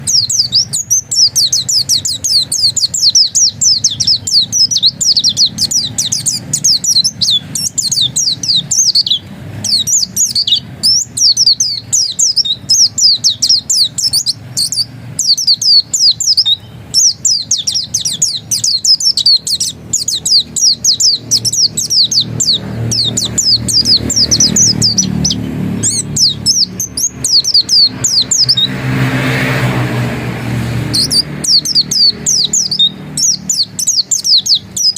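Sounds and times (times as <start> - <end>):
bird singing high chirps: 0.0 - 29.8, 30.6 - 34.9.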